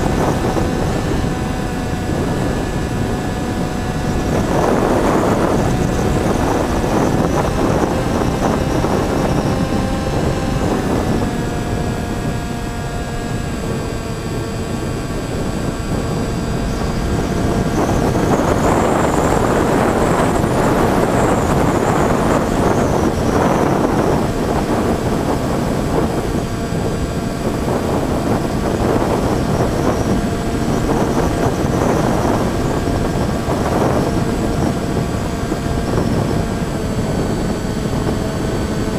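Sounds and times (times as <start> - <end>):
electric motors and propellers whine: 0.0 - 38.9
rushing wind noise: 0.0 - 38.9.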